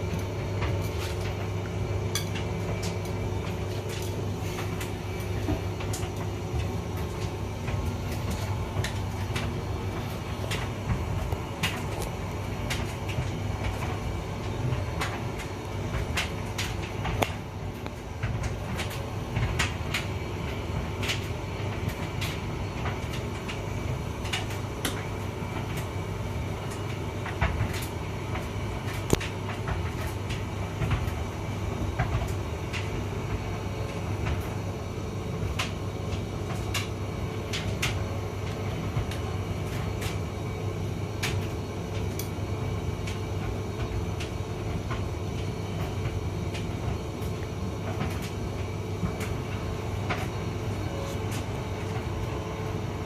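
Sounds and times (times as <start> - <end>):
tumble dryer motor hum: 0.0 - 53.0.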